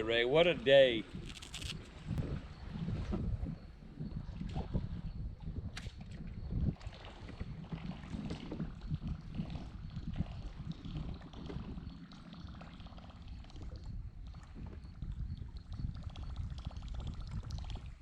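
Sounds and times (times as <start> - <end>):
water lapping against boat hull: 0.0 - 18.0
wind rumbling on microphone: 0.0 - 18.0.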